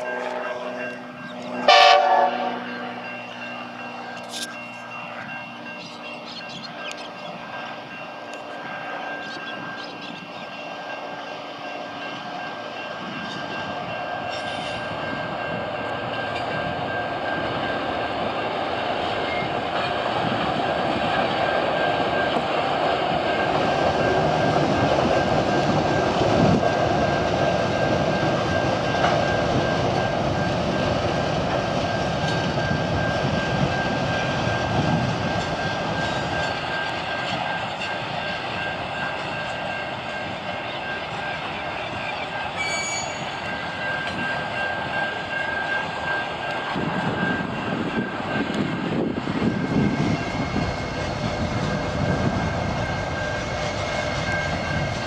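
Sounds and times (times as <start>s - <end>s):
freight locomotive engines: 0.0s - 55.0s
train wheels on rails: 0.0s - 55.0s.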